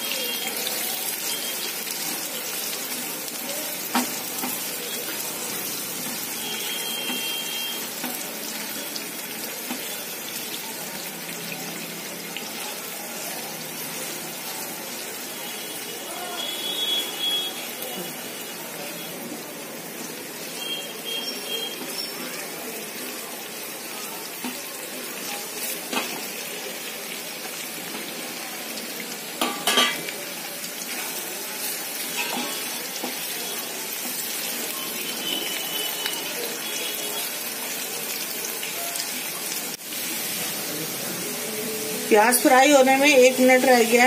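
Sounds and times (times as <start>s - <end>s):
onions sizzling in hot oil: 0.0s - 44.0s.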